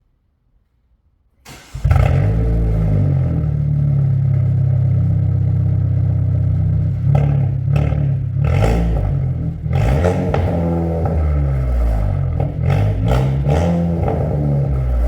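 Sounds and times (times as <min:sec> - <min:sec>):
car engine idling and revving: 0:01.8 - 0:15.0.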